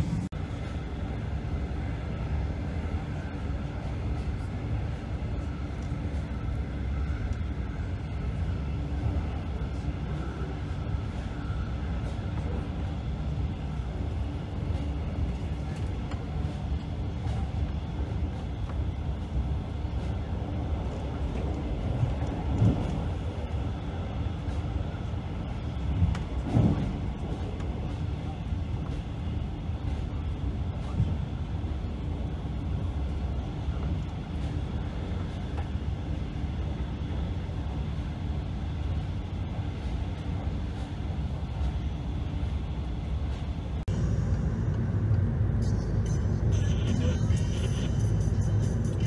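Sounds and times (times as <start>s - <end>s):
train running on rails: 0.0s - 49.0s.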